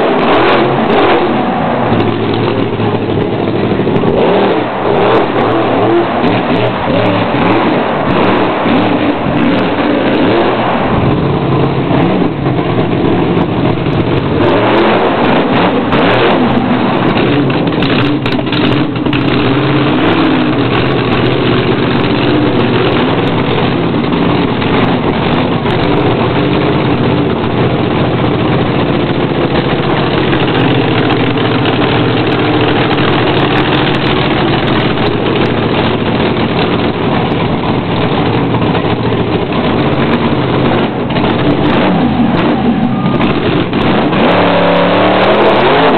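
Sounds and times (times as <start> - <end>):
monster truck engine revving: 0.0 - 45.9.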